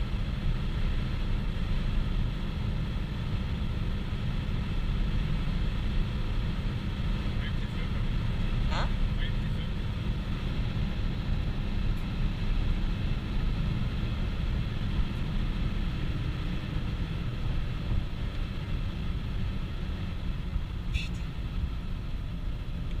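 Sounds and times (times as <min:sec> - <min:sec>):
faint engine drone: 0:00.0 - 0:23.0
road and wind rumble in car: 0:00.0 - 0:23.0.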